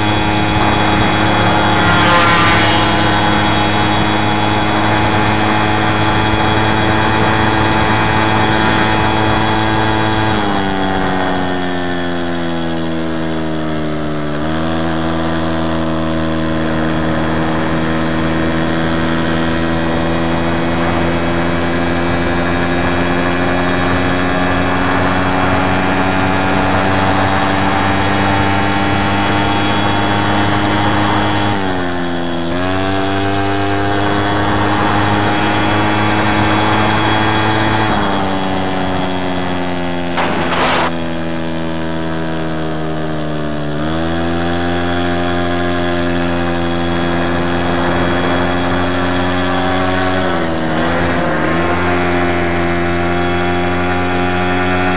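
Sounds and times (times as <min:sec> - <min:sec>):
moped two-stroke engine running: 0:00.0 - 0:54.9.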